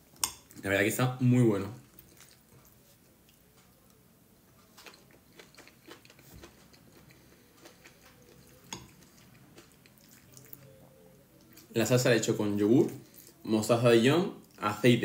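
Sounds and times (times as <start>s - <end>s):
faint chewing of soft food: 1.5s - 13.5s, 14.3s - 14.8s.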